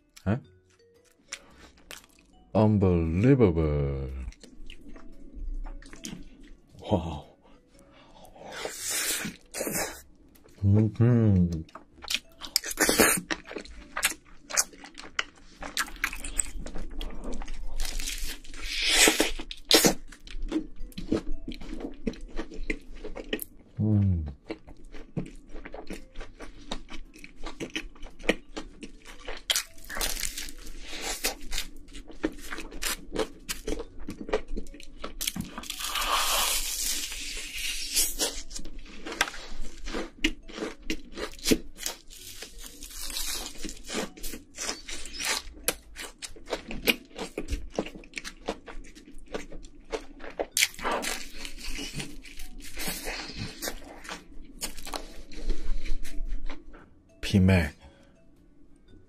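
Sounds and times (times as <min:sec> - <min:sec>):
chewing pizza: 0:08.5 - 0:56.9.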